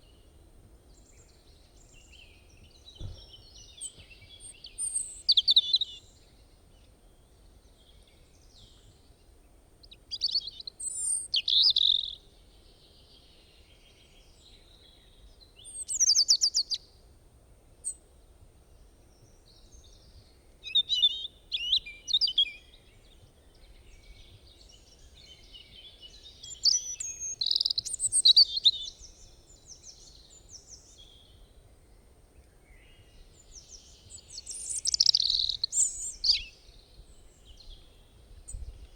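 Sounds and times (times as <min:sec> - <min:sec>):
songbirds chirping and trilling: 0:00.0 - 0:17.1, 0:17.8 - 0:38.9.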